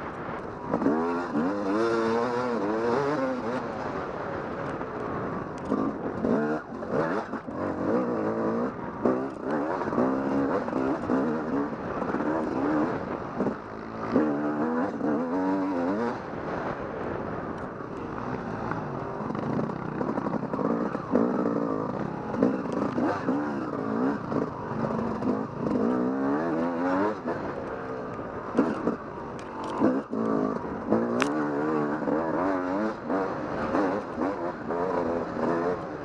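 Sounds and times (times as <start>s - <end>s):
dirt bike engine revving: 0.5s - 4.2s, 5.1s - 16.7s, 17.8s - 36.0s.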